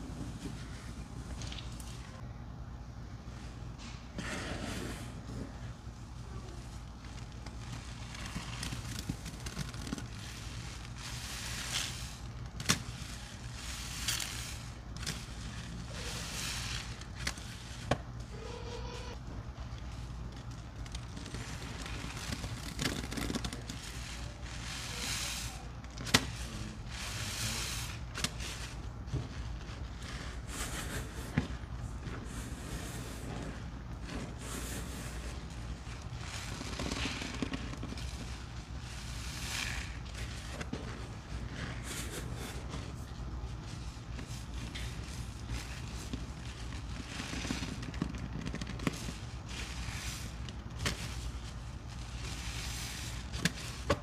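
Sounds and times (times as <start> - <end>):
soapy suds squishing: 6.5 - 18.2, 19.6 - 30.6, 31.4 - 54.0.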